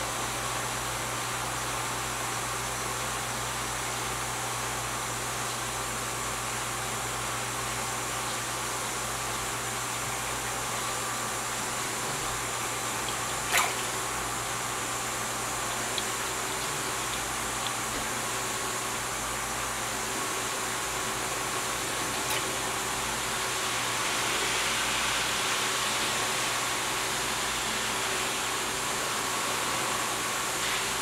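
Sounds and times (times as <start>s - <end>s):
machine hum with hiss: 0.0s - 31.0s.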